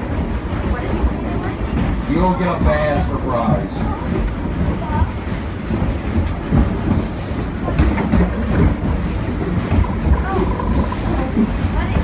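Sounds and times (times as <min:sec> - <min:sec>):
train rumbling on track: 0:00.0 - 0:12.0
train wheels knocking: 0:00.0 - 0:12.0.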